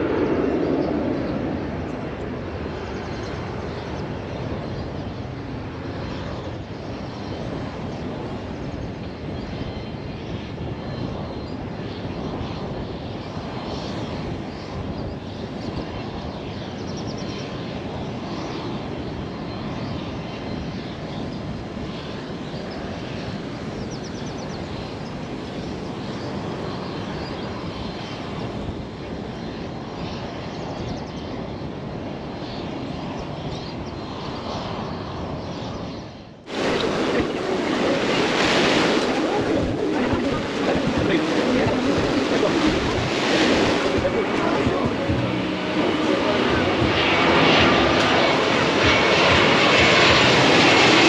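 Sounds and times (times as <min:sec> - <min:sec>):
airplane engine rumble: 0:00.0 - 0:51.0.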